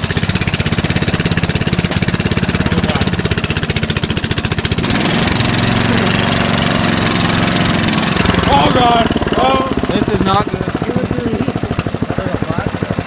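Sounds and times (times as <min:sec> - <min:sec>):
mower engine chugging: 0:00.0 - 0:13.0.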